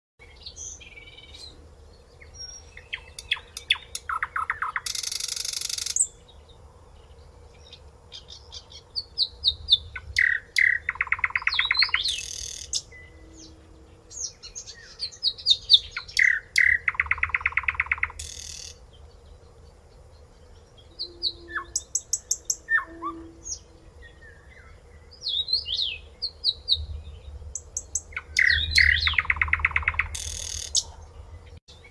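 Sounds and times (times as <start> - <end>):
songbird singing: 0.2 - 31.9.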